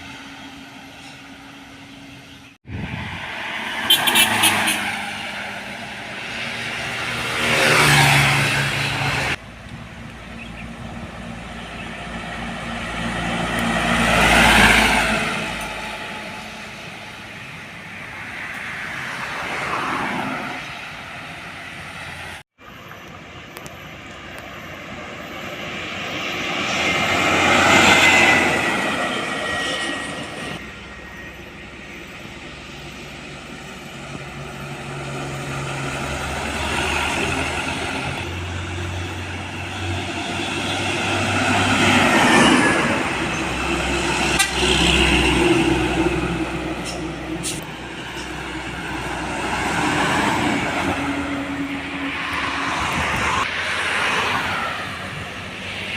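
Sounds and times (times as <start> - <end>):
heavy diesel trucks passing: 0.0 - 55.9
tyre noise on road: 0.0 - 55.9.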